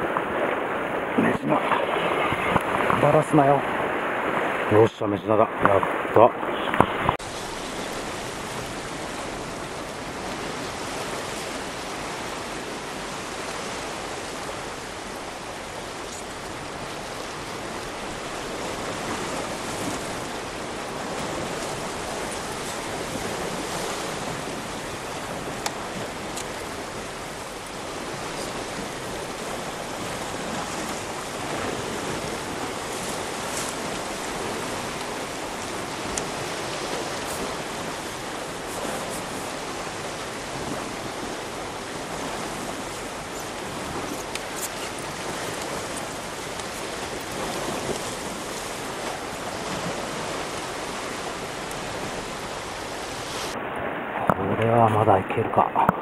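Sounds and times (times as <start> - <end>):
sea waves washing against rocks: 0.0 - 56.0.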